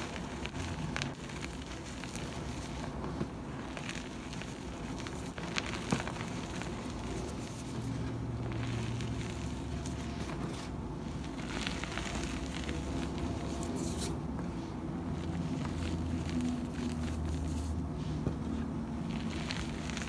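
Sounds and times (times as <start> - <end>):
chalk crunching in hands: 0.0 - 20.0.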